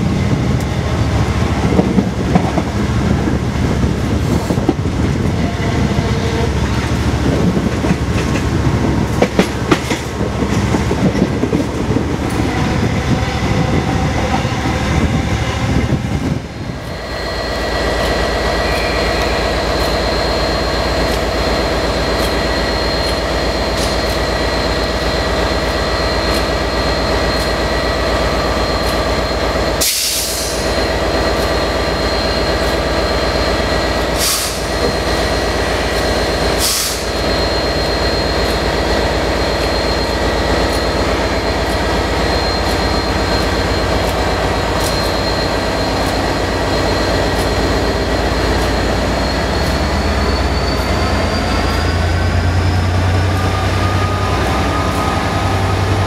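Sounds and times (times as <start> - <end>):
diesel locomotive idling: 0.0 - 56.0
train wheel rumble: 0.0 - 56.0.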